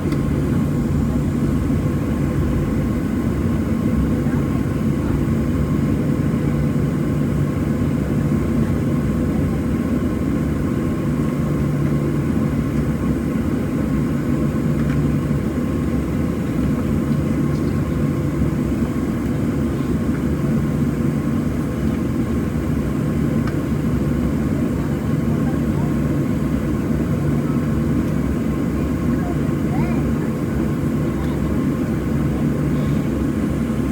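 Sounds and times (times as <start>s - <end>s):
airplane cabin hum: 0.0s - 33.9s.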